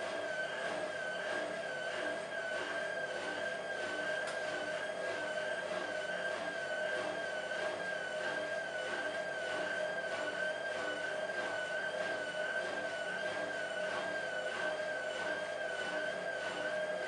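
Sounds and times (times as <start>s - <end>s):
washing machine spinning with high whine: 0.0s - 17.0s.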